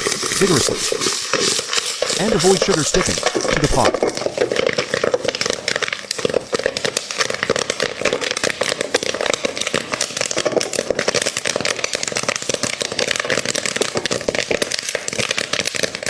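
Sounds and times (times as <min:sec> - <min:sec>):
popcorn popping in a pot: 0:00.0 - 0:16.0.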